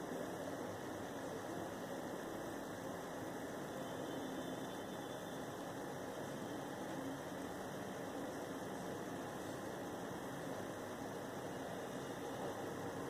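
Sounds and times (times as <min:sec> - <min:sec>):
room tone hum and hiss: 0:00.0 - 0:13.0.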